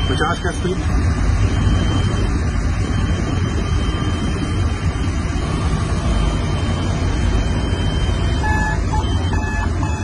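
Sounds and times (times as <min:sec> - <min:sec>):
locomotive running noise: 0:00.0 - 0:10.0.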